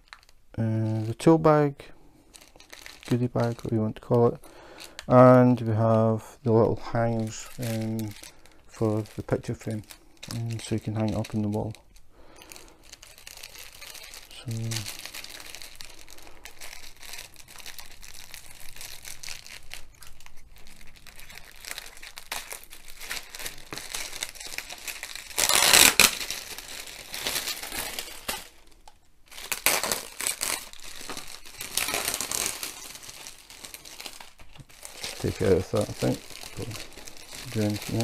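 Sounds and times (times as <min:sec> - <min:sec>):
plastic wrapping crinkling: 0:00.0 - 0:38.0.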